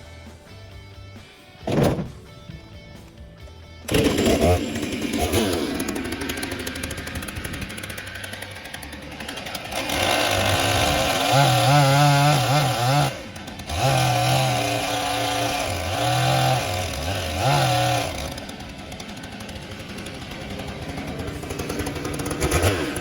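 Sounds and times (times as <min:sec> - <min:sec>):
band sawmill cutting log: 0:03.9 - 0:23.0.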